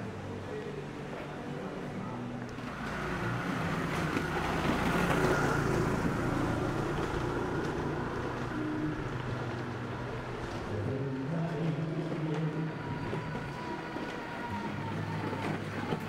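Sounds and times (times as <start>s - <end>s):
car passing by: 2.4s - 16.0s.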